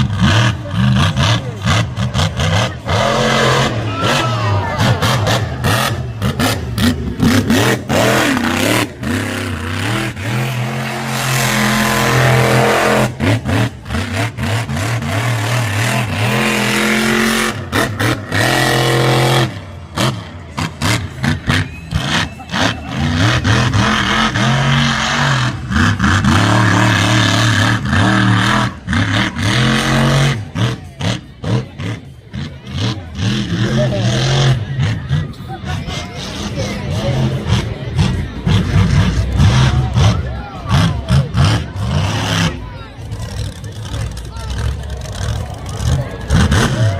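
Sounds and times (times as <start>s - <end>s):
monster truck engines revving: 0.0s - 46.9s.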